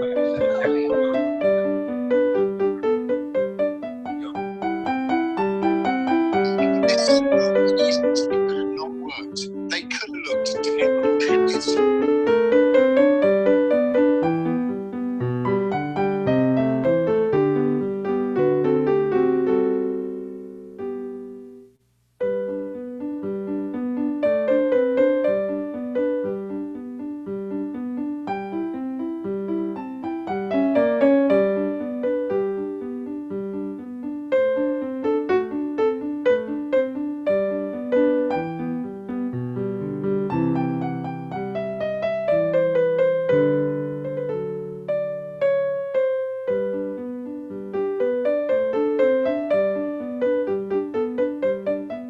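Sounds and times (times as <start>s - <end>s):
solo piano music: 0.0s - 52.0s.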